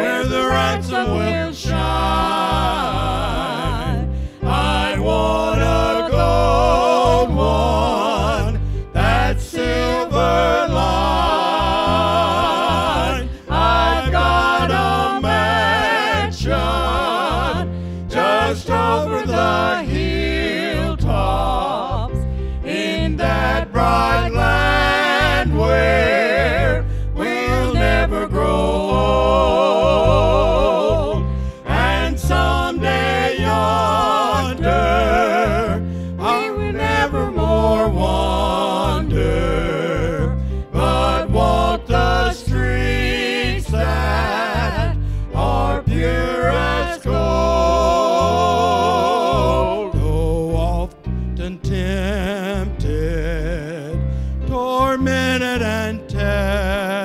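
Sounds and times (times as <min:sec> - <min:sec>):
electric bass: 0:00.0 - 0:57.0
men singing in harmony: 0:00.0 - 0:57.0
piano: 0:00.0 - 0:57.0.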